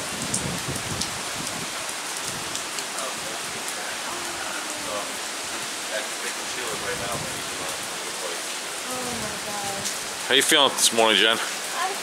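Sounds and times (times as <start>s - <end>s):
heavy rain hissing: 0.0s - 12.0s
raindrops ticking on surfaces: 0.0s - 12.0s.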